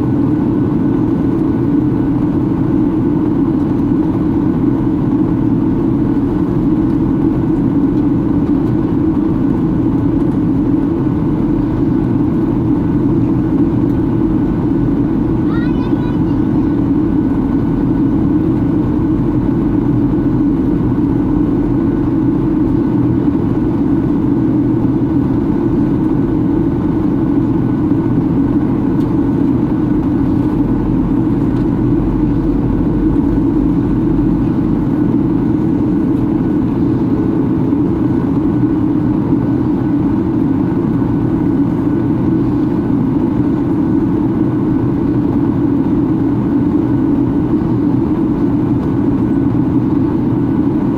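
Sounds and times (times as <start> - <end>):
airplane cabin engine roar: 0.0 - 50.9.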